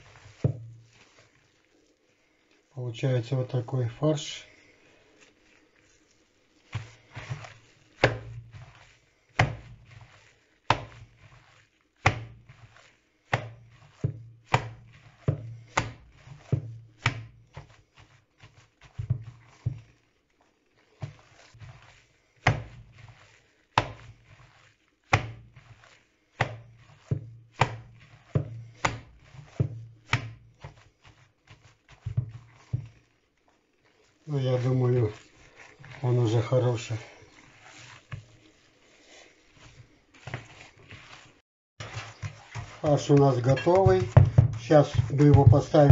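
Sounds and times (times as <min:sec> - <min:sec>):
hands slapping minced meat: 0:00.0 - 0:45.9.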